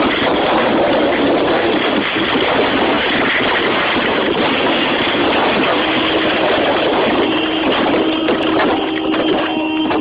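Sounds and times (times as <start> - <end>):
car interior road noise: 0.0 - 10.0
steady hum: 0.0 - 10.0.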